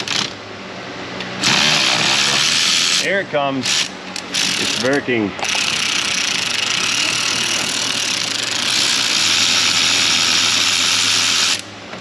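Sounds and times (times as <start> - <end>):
power ratchet running: 0.0 - 0.4, 1.4 - 11.7.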